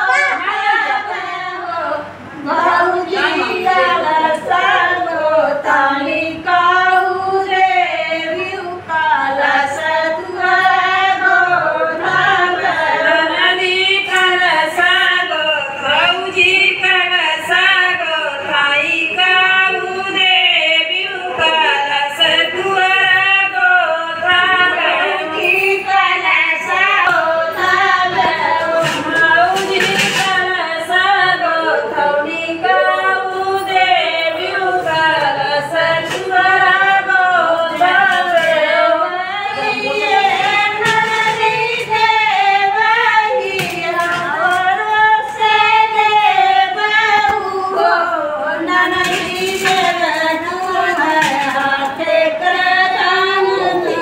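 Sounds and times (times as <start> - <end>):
women singing devotional song: 0.0 - 54.0.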